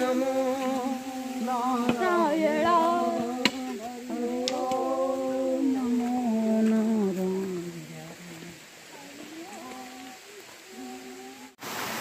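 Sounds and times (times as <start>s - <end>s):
person singing a slow chant: 0.0s - 11.6s.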